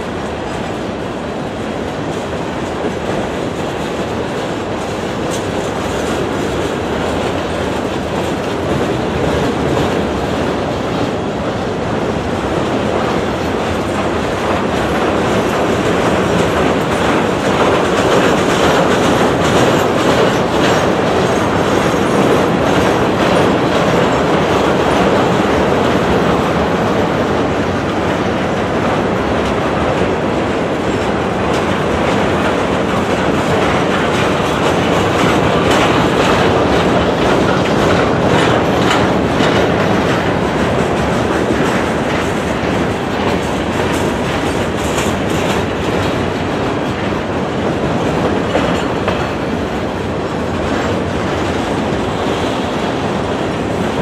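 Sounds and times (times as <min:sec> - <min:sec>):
steel wheels rumbling on rail: 0:00.0 - 0:54.0
wheels clicking over rail joints: 0:00.0 - 0:54.0.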